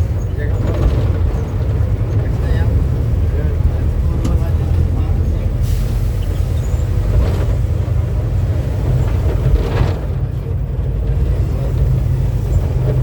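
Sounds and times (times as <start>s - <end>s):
diesel engine droning: 0.0s - 13.0s
road noise: 0.0s - 13.0s.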